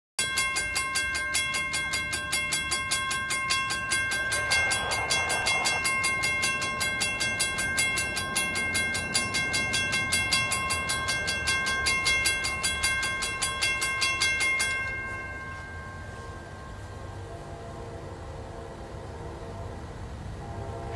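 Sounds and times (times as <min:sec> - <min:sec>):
railroad crossing bell ringing: 0:00.2 - 0:20.9.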